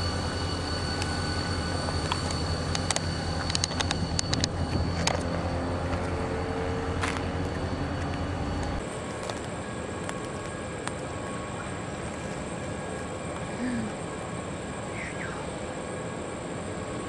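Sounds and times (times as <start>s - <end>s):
faint high whine: 0.0s - 17.0s
vehicle engine humming: 0.0s - 17.0s.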